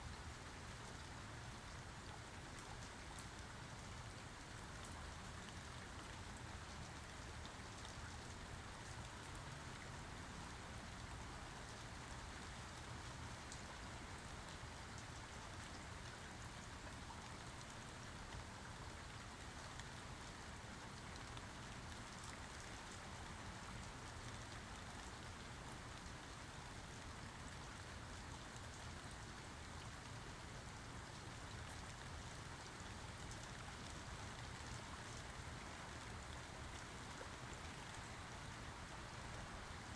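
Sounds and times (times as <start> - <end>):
rain falling: 0.3 - 39.9.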